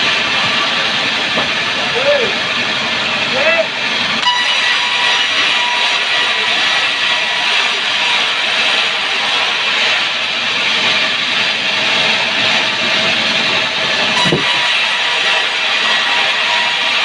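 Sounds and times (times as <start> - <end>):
saw cutting log hissing: 0.0 - 17.0.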